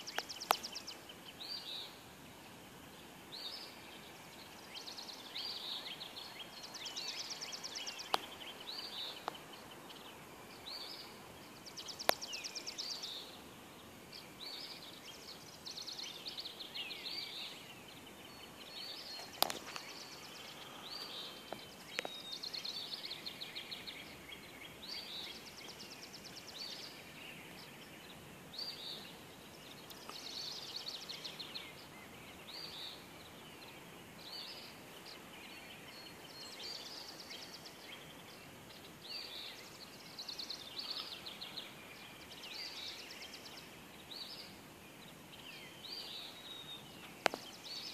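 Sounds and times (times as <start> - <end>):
songbirds trilling and chirping: 0.0 - 47.9.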